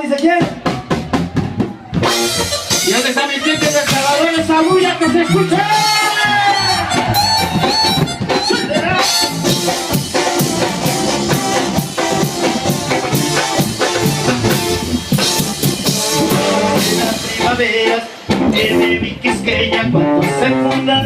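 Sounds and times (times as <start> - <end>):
guitar: 0.0 - 21.0
drum beat: 0.3 - 19.5
reedy melodic lead: 0.6 - 21.0.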